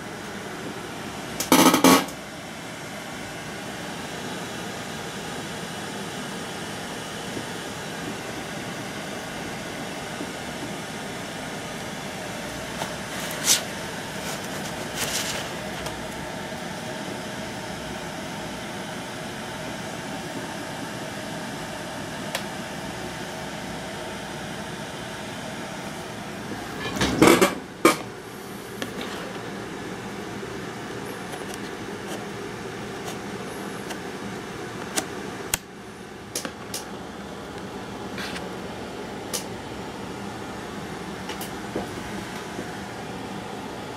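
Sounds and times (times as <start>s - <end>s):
fan-like background hum: 0.0s - 43.9s.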